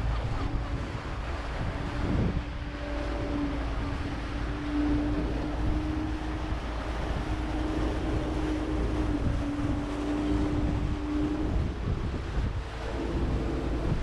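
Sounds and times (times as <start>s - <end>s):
boat engine running: 0.0s - 14.0s
water wash: 0.0s - 14.0s
wind rumble on microphone: 0.0s - 14.0s.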